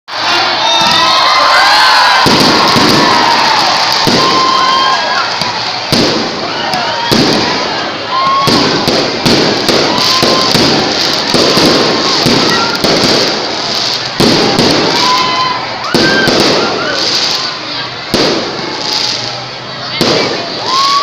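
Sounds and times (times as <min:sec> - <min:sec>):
crowd voices: 0:00.1 - 0:21.0
fireworks bangs: 0:00.1 - 0:21.0.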